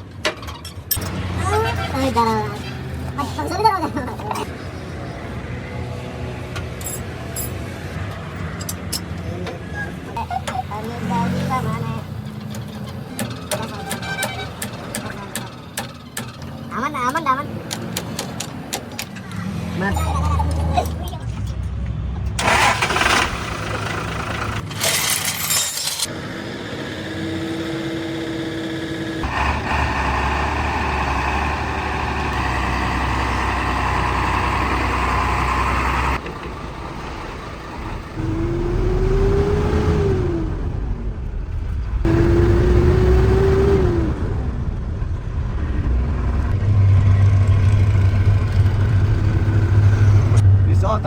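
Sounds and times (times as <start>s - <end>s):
truck engine revving: 1.0s - 8.0s, 10.1s - 24.8s, 26.1s - 51.0s.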